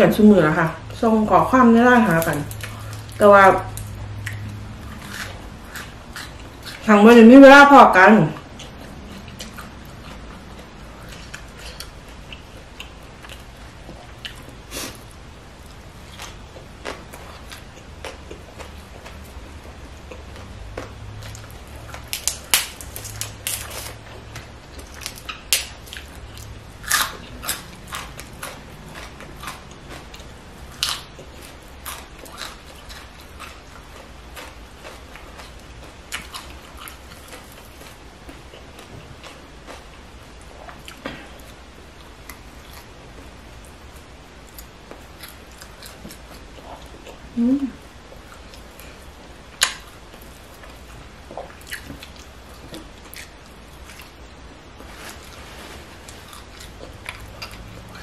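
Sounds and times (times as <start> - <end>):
chewing and biting food: 1.9 - 7.2, 8.2 - 58.0.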